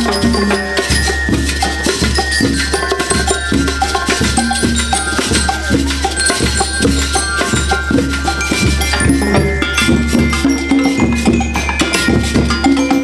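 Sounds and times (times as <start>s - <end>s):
bell lyres ringing: 0.0s - 13.0s
drums beating rhythm: 0.0s - 13.0s.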